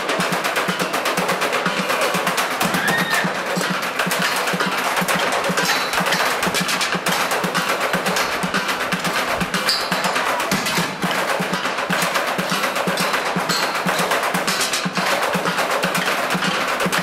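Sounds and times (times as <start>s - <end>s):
fast clicking rhythm: 0.0s - 17.0s.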